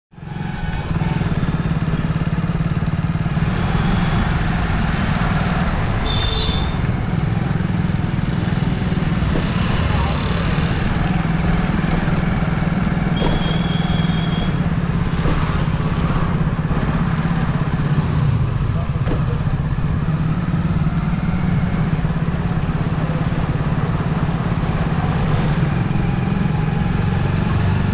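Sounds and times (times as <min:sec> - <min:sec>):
street traffic noise: 0:00.1 - 0:27.9
motorcycle engine running: 0:00.2 - 0:27.9.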